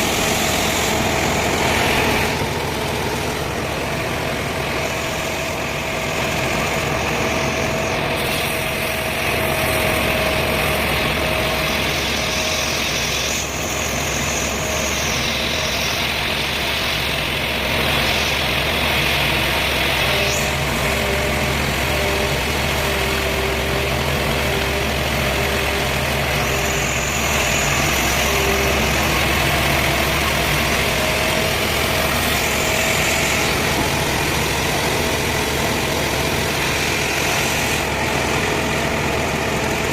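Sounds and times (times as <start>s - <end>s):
saw cutting wood: 0.0s - 39.9s
sawmill machinery humming: 0.0s - 39.9s.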